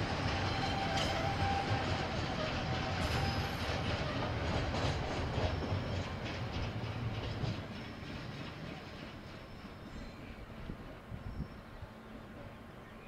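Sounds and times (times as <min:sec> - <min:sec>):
train wheels clicking over rails: 0:00.0 - 0:11.0
low train rumble: 0:00.0 - 0:13.0.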